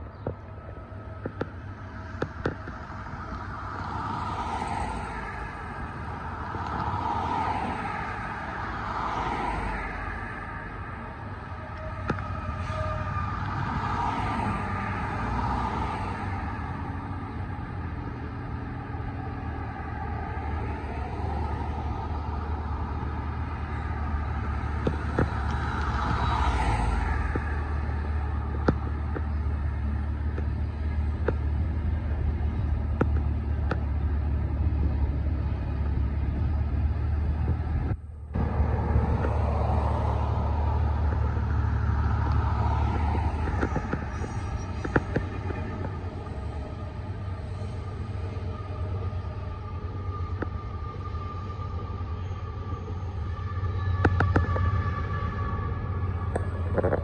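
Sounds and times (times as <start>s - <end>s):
cars and trucks passing: 0.0s - 57.0s
freight train rumbling: 0.0s - 57.0s.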